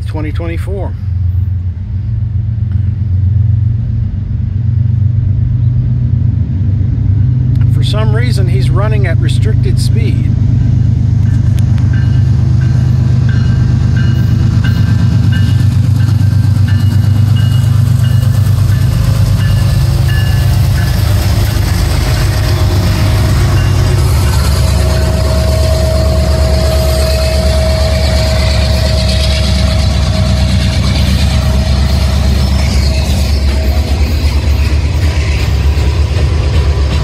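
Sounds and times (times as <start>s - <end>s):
diesel locomotive engines droning: 0.0s - 37.0s
steady whine: 1.0s - 37.0s.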